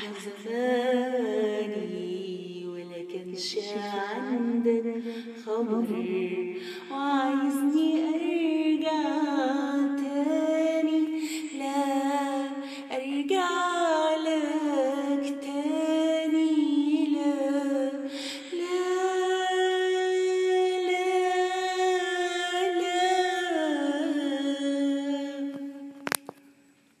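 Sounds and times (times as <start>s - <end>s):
girl singing unaccompanied: 0.0s - 26.0s.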